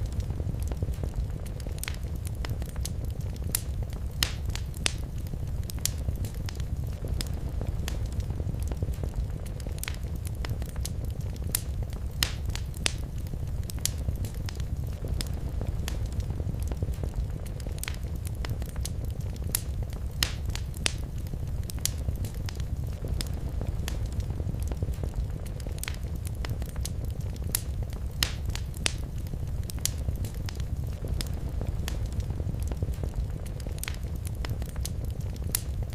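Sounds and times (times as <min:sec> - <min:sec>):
low rumble of flames: 0:00.0 - 0:35.9
wood fire crackling: 0:00.0 - 0:35.9.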